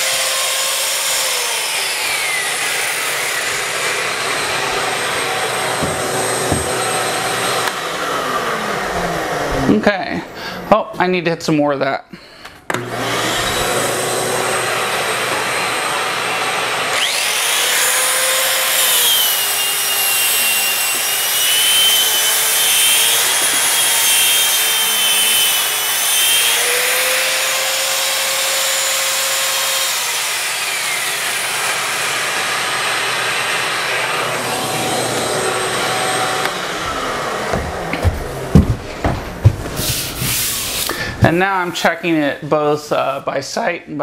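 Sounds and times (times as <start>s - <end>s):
power sander whining: 0.0s - 9.8s, 12.7s - 41.1s
shop vacuum running: 0.0s - 10.8s, 12.7s - 43.2s.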